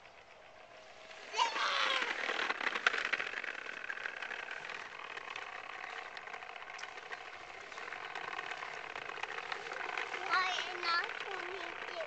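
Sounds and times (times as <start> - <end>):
lawn mower running: 0.0 - 12.0
light rattle: 0.0 - 12.0.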